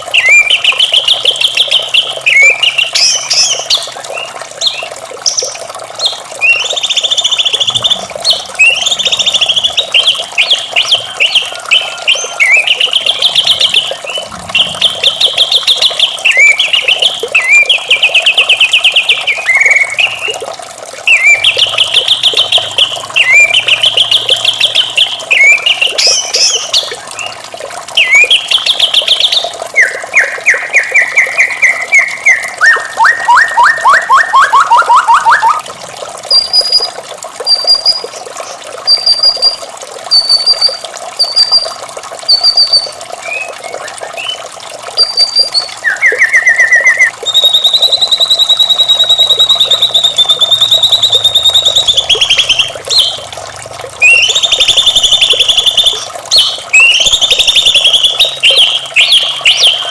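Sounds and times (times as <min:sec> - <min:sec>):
running water: 0:00.0 - 0:59.9
bird singing trills: 0:00.2 - 0:20.3, 0:21.1 - 0:27.4, 0:28.0 - 0:35.6, 0:45.0 - 0:53.2, 0:54.0 - 0:59.9.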